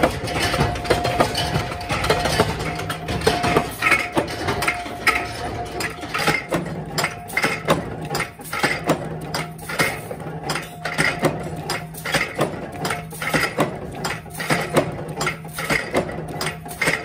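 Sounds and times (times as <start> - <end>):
metal parts clattering: 0.0 - 17.0.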